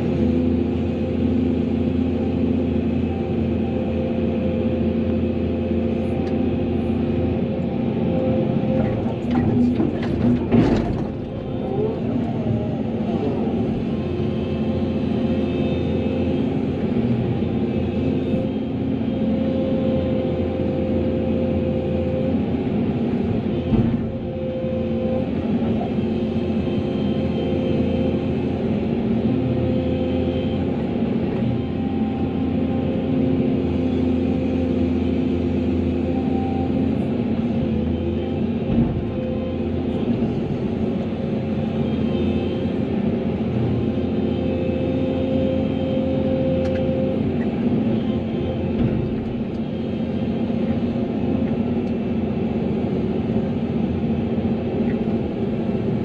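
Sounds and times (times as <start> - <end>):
excavator diesel engine running: 0.0 - 56.0
humming tones: 1.9 - 56.0.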